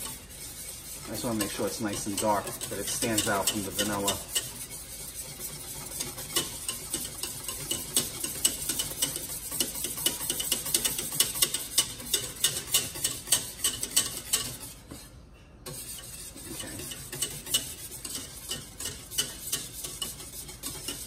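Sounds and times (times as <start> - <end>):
metal whisk clinking in saucepan: 0.0 - 15.0, 15.7 - 21.0.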